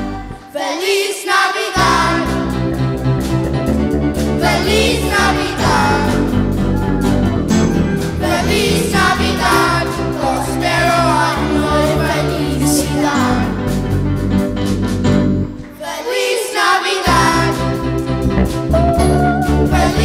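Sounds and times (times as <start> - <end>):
band playing: 0.0 - 0.7, 1.8 - 16.0, 17.0 - 20.0
children's choir singing: 0.0 - 3.0, 4.2 - 13.8, 15.6 - 18.1, 19.0 - 20.0.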